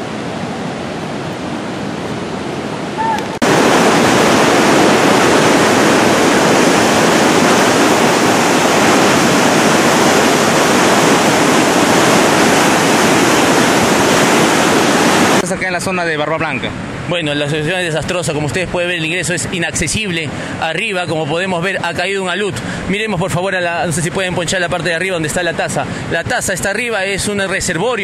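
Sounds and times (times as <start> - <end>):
outdoor noise: 0.0 - 28.0
rushing mudflow torrent: 0.0 - 28.0.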